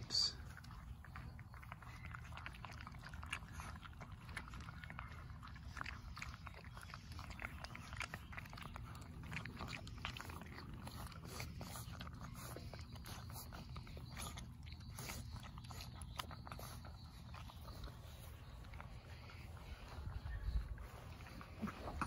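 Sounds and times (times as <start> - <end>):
puppies crunching kibble: 0.0 - 22.0.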